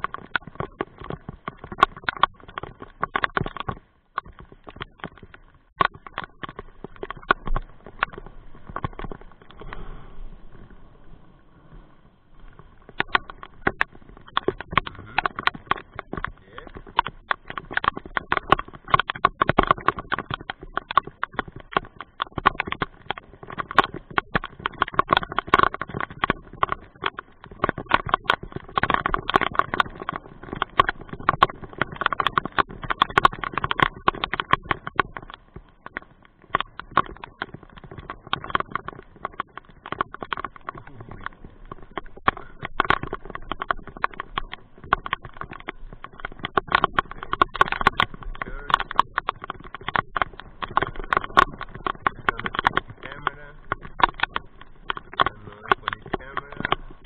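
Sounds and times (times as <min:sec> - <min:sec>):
rain tapping on a cover: 0:00.0 - 0:11.1, 0:11.7 - 0:57.0.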